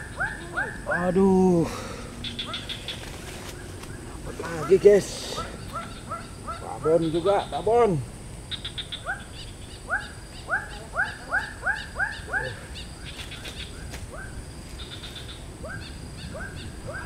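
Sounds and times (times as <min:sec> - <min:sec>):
bird calling upswept notes: 0:00.0 - 0:17.0.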